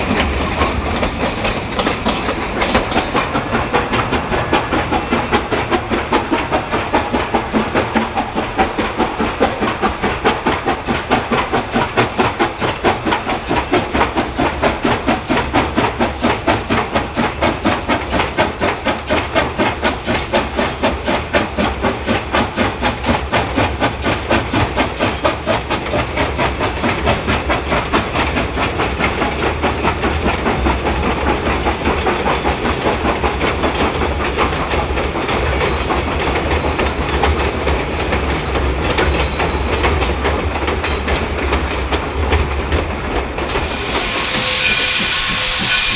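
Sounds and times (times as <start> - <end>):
continuous hiss of steam: 0.0 - 45.9
steam locomotive exhaust chuffing: 0.0 - 45.9.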